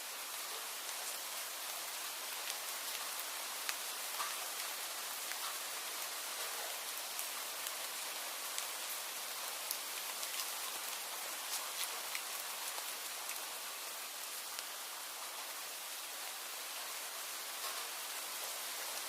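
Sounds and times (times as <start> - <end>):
rain drops pattering on a surface: 0.0 - 19.0.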